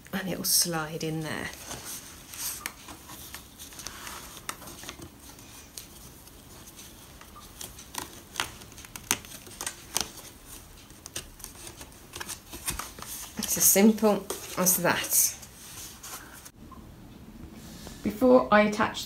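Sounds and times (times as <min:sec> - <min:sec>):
fabric rustling: 0:01.1 - 0:16.6.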